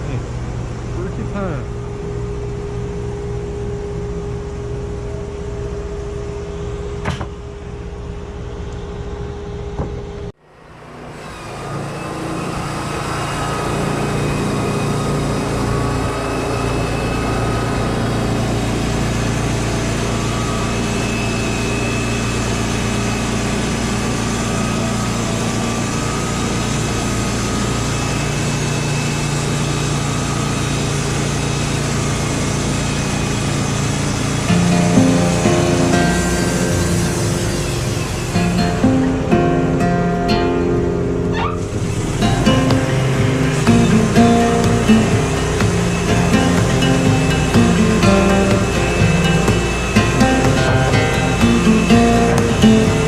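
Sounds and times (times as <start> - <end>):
engine running steadily: 0.0 - 53.0
machinery noise: 0.0 - 53.0.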